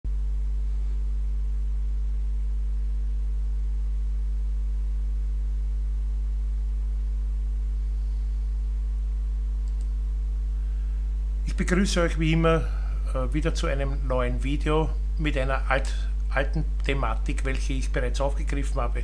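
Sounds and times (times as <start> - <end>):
low electrical hum: 0.1 - 19.0.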